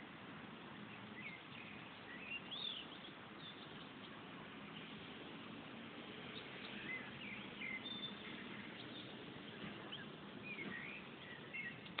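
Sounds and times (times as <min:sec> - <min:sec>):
steady background noise: 0:00.0 - 0:12.0
small birds chirping: 0:00.6 - 0:12.0.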